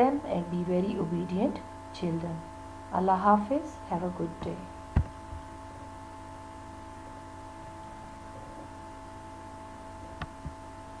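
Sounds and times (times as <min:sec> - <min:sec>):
electrical hum: 0:00.0 - 0:11.0
faint constant tones: 0:00.0 - 0:11.0.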